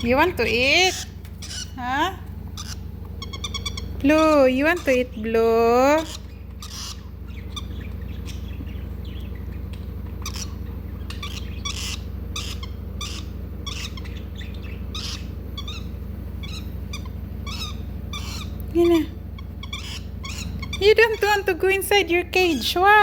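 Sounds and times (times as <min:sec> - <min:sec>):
lovebird chirping: 0:00.0 - 0:23.0
steady low hum: 0:00.0 - 0:23.0.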